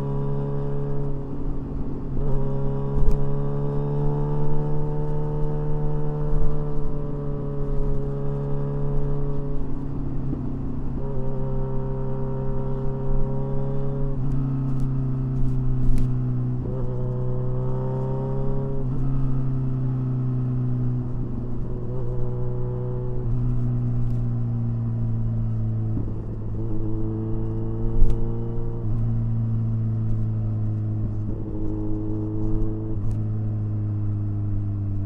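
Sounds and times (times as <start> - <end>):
motorcycle engine through loud exhaust: 0.0 - 35.0.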